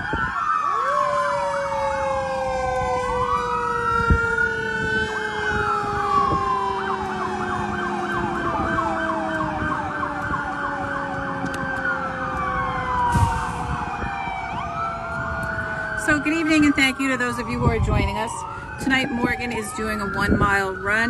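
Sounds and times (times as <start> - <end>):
police siren wailing and yelping: 0.0 - 21.0
second siren winding down: 0.0 - 21.0.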